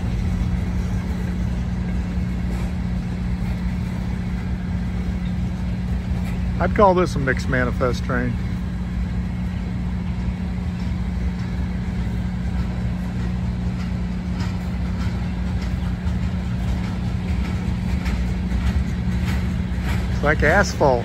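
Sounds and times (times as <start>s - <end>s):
low hum: 0.0s - 21.0s
train wheels rumbling on rail: 0.0s - 21.0s.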